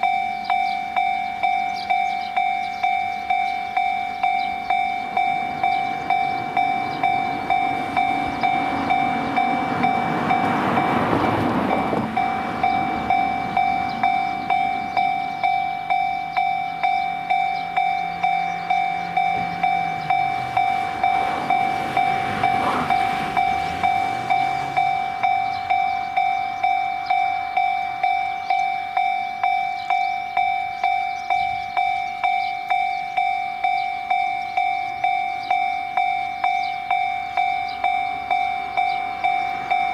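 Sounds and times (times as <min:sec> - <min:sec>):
level-crossing warning bell: 0:00.0 - 0:39.9
train passing: 0:00.0 - 0:39.9.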